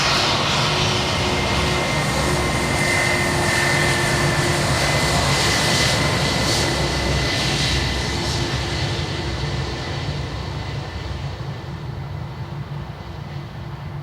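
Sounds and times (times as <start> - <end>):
airliner engines passing: 0.0 - 14.0.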